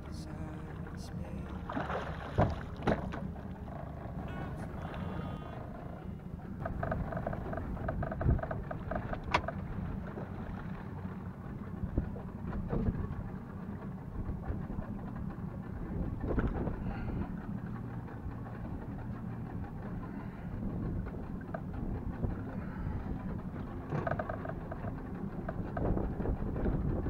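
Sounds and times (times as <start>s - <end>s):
boat engine rumble: 0.0s - 27.0s
faint whining tones: 0.0s - 27.0s
water noise: 0.0s - 27.0s.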